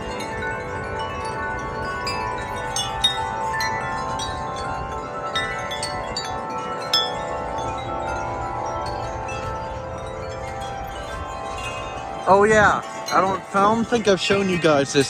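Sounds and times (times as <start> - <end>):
low wind rumble: 0.0 - 15.0
wind chimes ringing: 0.0 - 15.0.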